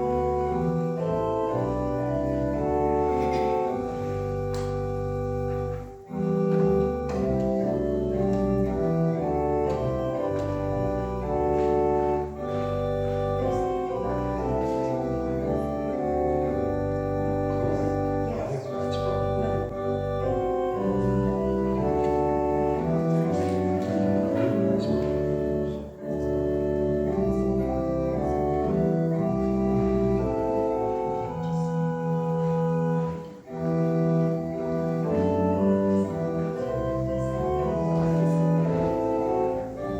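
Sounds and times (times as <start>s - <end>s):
organ playing held chords: 0.0s - 39.9s.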